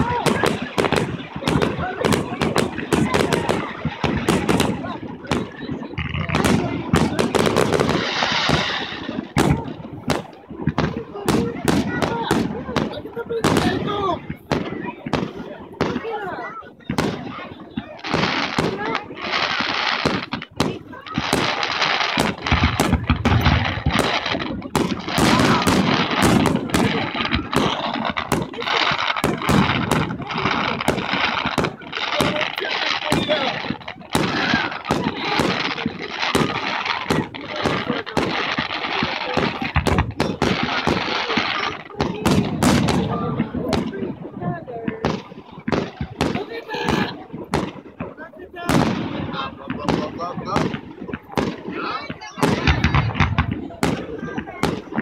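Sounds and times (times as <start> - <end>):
fireworks bangs: 0.0 - 55.0
fireworks crackle: 0.0 - 55.0.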